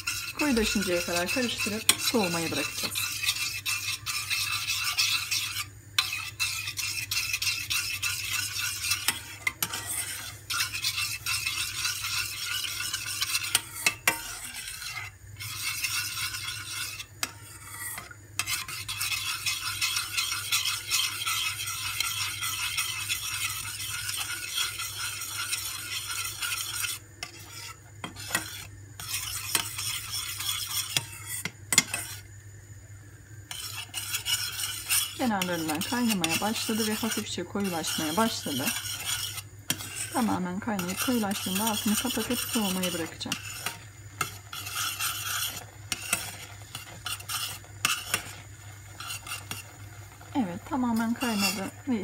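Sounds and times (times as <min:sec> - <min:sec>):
metal spoon scraping pot: 0:00.0 - 0:32.3, 0:33.5 - 0:52.0.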